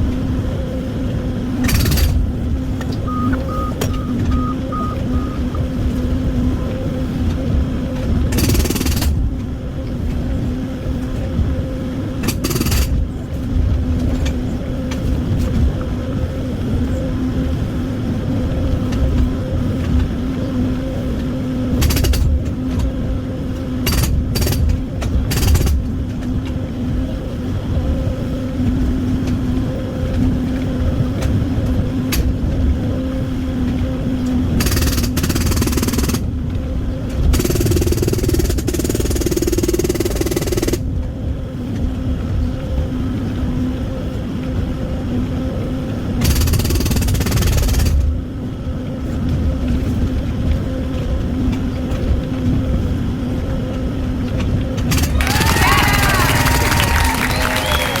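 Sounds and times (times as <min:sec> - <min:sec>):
excavator diesel engine running: 0:00.0 - 0:41.2, 0:41.9 - 0:58.0.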